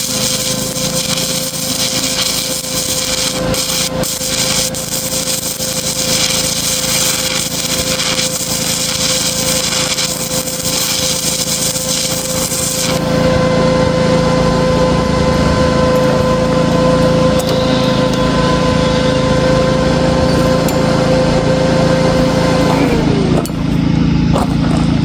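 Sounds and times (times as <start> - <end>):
power tool motor whine: 0.0 - 24.3
low hum: 0.0 - 25.0.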